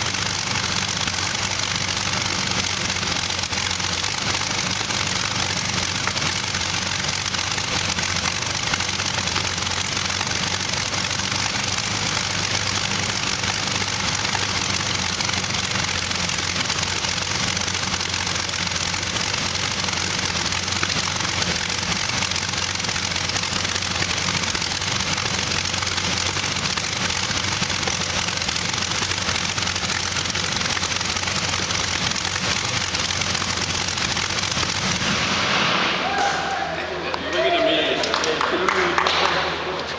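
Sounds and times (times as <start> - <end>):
aircraft engine exhaust roar: 0.0 - 37.2.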